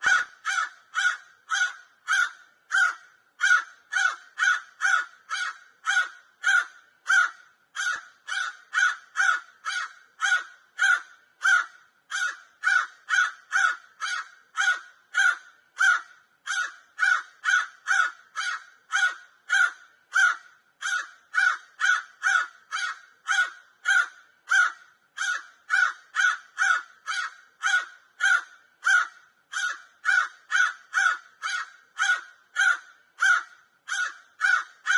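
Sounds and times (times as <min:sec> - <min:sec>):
crow cawing: 0:00.0 - 0:34.9.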